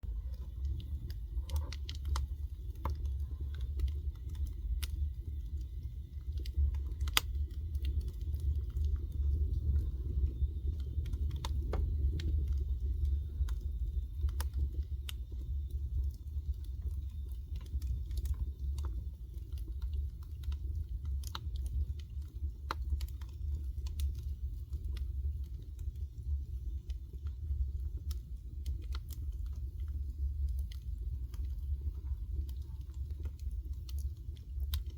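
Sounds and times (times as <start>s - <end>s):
low steady rumble: 0.0s - 34.9s
wood fire crackling: 0.0s - 34.9s
fire pops and snaps: 0.1s - 34.9s.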